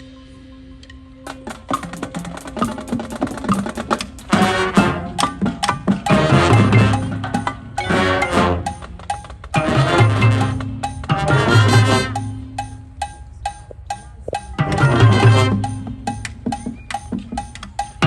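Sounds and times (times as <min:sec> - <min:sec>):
marching band playing: 0:01.3 - 0:13.0, 0:14.4 - 0:18.0
rapid percussion hits: 0:01.3 - 0:18.0.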